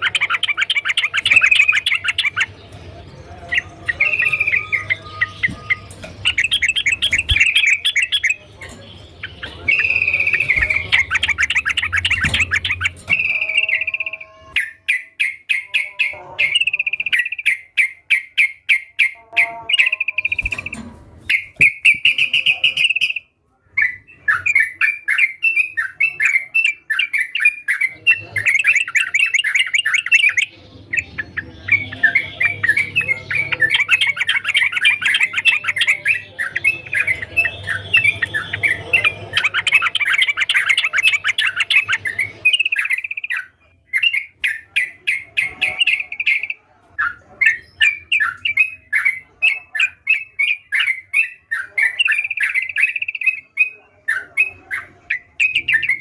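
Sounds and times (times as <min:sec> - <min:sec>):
bird singing rapid chirps: 0:00.0 - 0:56.0.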